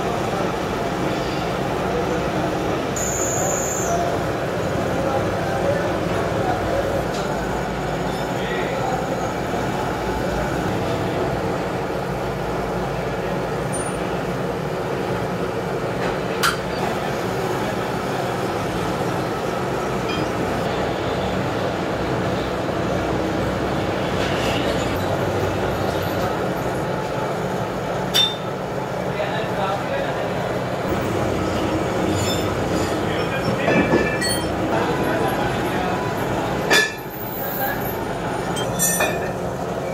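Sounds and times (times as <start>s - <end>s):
machine drone and clatter: 4.0s - 39.9s.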